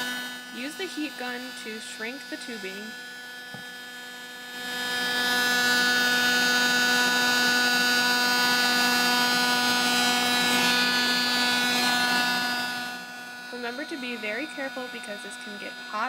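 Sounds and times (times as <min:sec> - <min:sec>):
heat gun blowing: 0:00.0 - 0:16.0.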